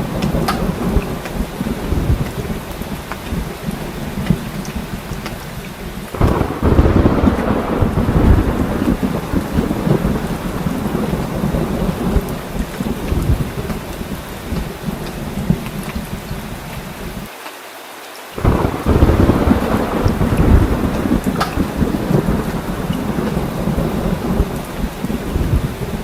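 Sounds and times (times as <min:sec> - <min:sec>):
low rumble of thunder: 0:00.0 - 0:17.3, 0:18.4 - 0:26.0
heavy rain pouring: 0:00.0 - 0:26.0.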